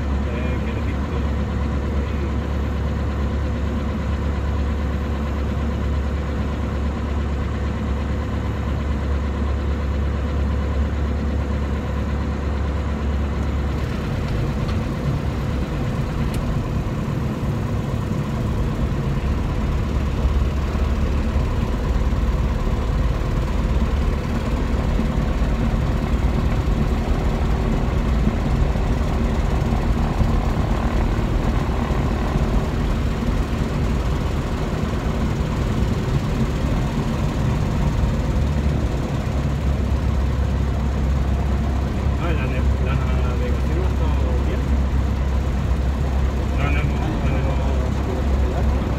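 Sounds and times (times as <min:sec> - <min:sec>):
aircraft engine and propeller: 0:00.0 - 0:48.9.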